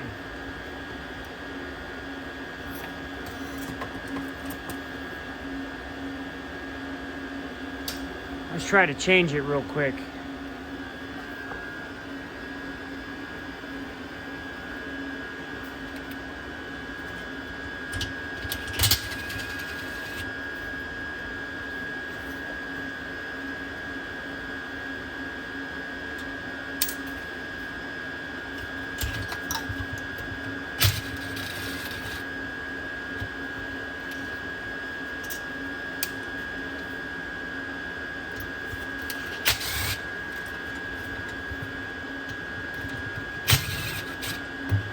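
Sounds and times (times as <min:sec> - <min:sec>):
blower fan motor whining: 0:00.0 - 0:44.9.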